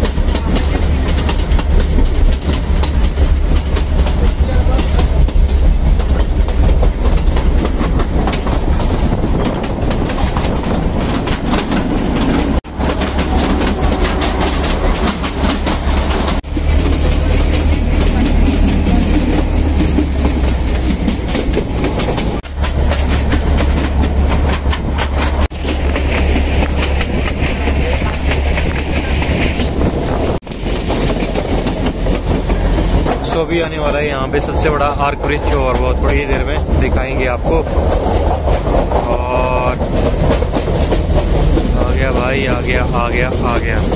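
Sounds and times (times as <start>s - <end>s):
train rumbling: 0.0s - 43.9s
wheels clattering over rail joints: 0.0s - 43.9s.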